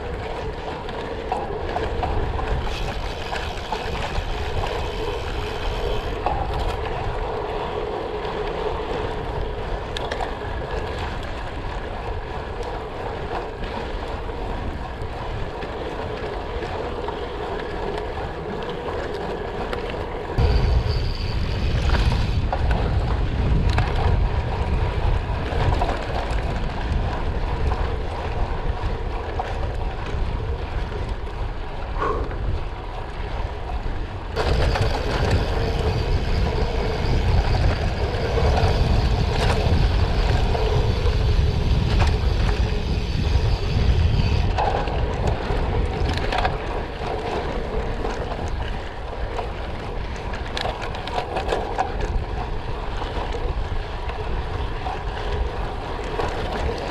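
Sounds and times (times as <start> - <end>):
wind rumble on microphone: 0.0 - 56.9.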